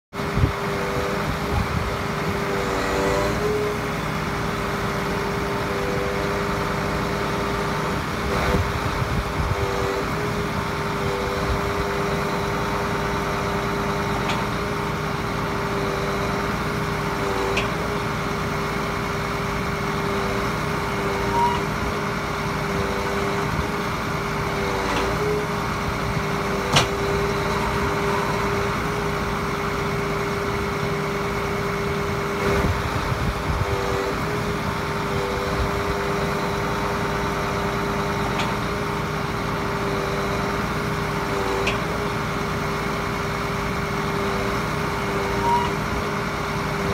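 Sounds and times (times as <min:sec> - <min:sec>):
truck engine humming: 0:00.2 - 0:46.9.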